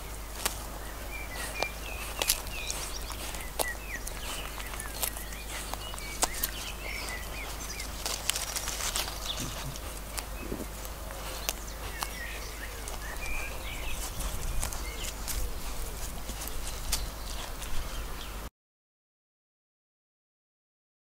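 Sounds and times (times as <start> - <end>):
lamb tearing grass: 0.0 - 18.2
lamb chewing: 0.0 - 18.3
small birds chirping: 0.0 - 18.5.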